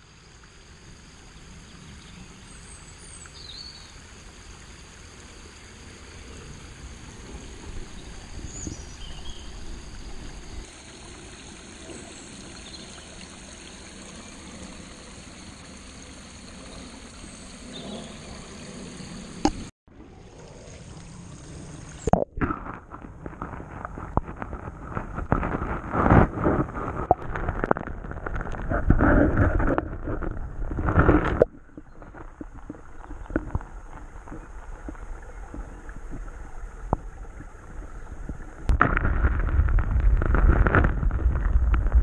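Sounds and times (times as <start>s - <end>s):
water trickling: 0.0s - 42.0s.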